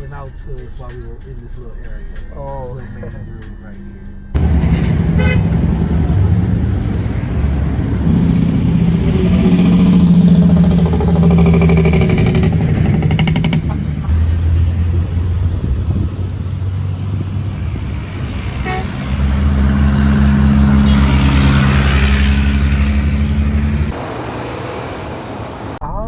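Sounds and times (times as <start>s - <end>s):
road noise: 4.4s - 25.8s
vehicle engine running: 4.4s - 25.8s.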